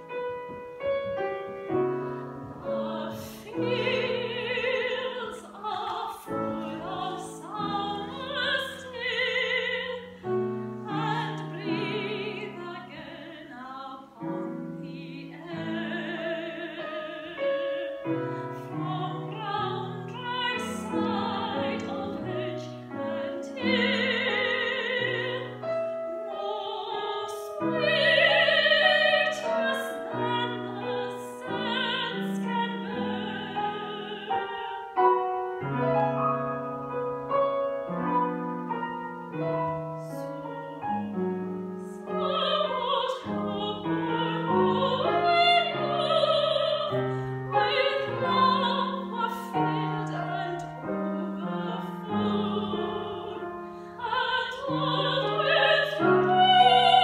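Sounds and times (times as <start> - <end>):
grand piano: 0.0 - 57.0
woman singing operatically: 2.7 - 10.1, 10.8 - 25.7, 26.3 - 34.9, 41.8 - 57.0.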